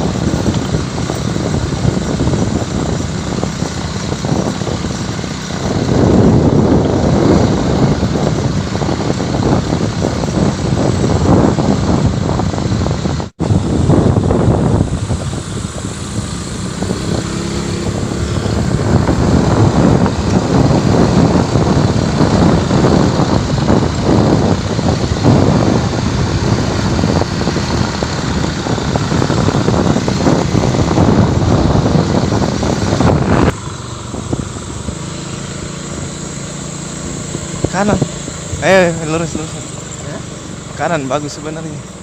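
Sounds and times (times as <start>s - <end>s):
motorcycle engine running: 0.0s - 42.0s
wind buffeting microphone: 0.0s - 42.0s.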